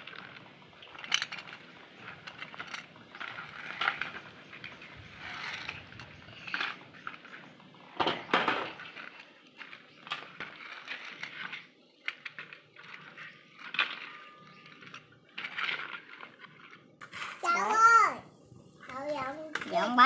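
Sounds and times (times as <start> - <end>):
metal toy cars clicking and scraping: 0.0 - 20.0
toy cars clattering: 0.0 - 20.0.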